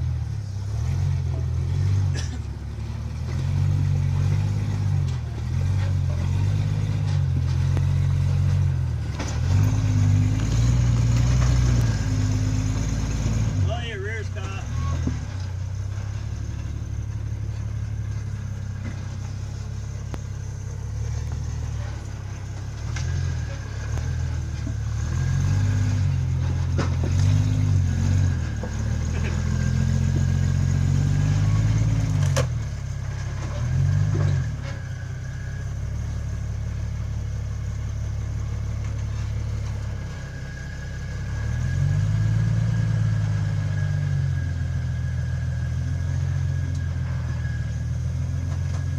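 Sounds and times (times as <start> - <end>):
vehicle engine revving: 0.0 - 48.9.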